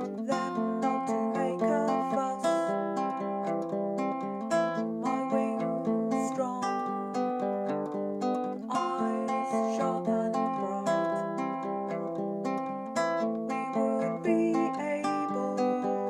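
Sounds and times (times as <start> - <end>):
fingerpicked ukulele: 0.0 - 16.0.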